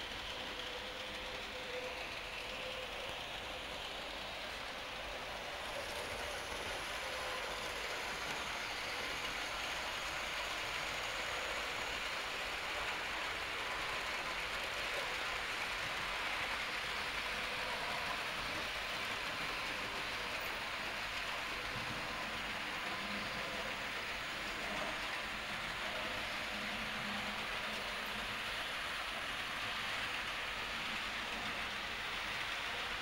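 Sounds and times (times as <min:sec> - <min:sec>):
model train wheels rattling on track: 0:00.0 - 0:33.0.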